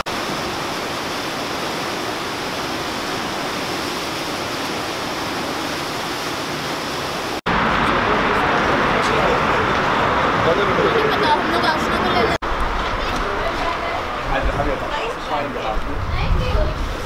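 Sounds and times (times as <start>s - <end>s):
rushing whitewater: 0.0s - 17.0s.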